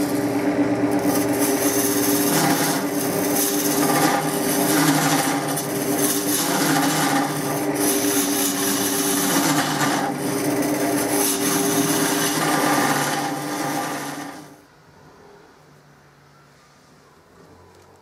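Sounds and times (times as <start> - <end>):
lathe tool scraping wood: 0.0 - 14.6
lathe hum: 0.0 - 14.7.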